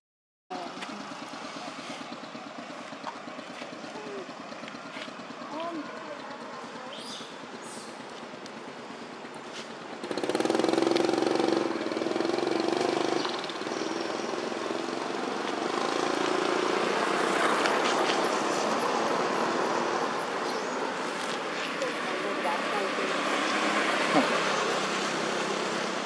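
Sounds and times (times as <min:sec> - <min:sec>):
vehicle engine running: 0:00.5 - 0:26.0.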